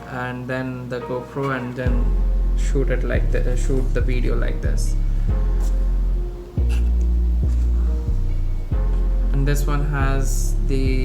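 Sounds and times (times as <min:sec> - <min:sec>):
music with low bass notes: 0:01.9 - 0:11.0.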